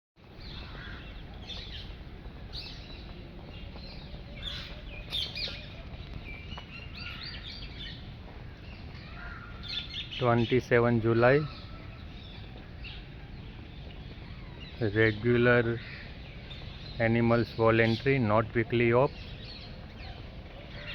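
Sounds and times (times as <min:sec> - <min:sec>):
birds chirping: 0:00.2 - 0:20.9.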